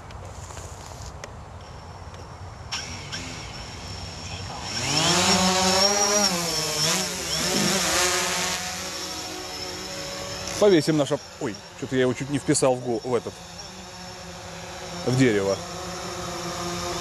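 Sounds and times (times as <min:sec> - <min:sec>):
drone propellers buzzing whine: 0:00.4 - 0:17.0.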